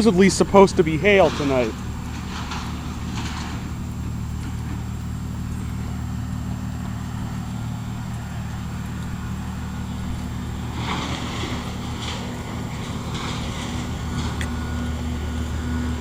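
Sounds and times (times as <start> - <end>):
heat pump low hum: 0.0 - 16.0
rustling hiss: 0.0 - 16.0.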